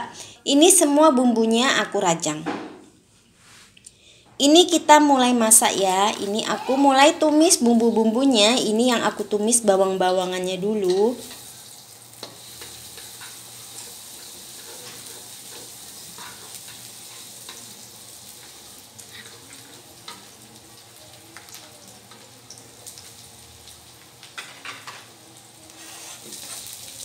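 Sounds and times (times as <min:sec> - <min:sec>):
shallots and garlic sizzling in oil: 0:05.1 - 0:27.0.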